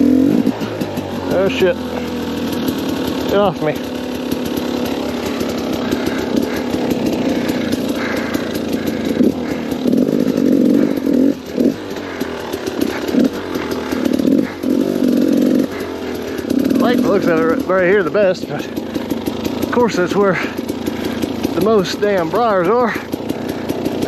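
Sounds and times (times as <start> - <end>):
two-stroke engine revving: 0.0 - 24.0.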